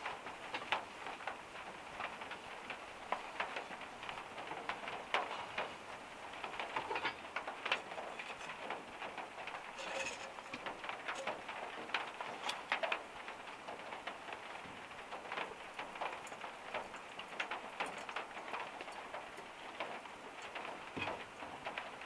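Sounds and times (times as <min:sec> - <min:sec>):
freezing rain pattering on a roof: 0:00.0 - 0:22.0.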